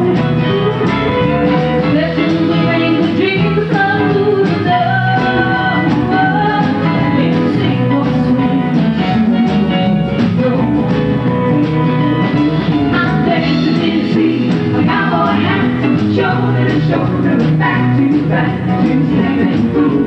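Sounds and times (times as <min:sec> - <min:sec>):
person singing lead vocal: 0:00.0 - 0:11.2, 0:12.5 - 0:20.0
live country band playing: 0:00.0 - 0:20.0.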